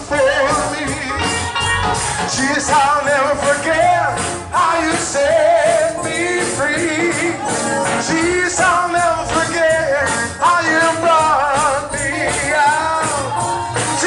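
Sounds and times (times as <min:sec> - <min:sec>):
church band: 0:00.0 - 0:14.0
man singing gospel: 0:00.0 - 0:14.0.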